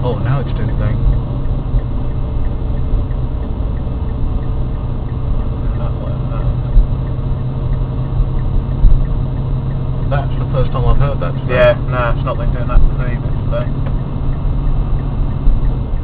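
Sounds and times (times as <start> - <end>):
car cabin drone: 0.0 - 16.0
fast even ticking: 0.0 - 16.0.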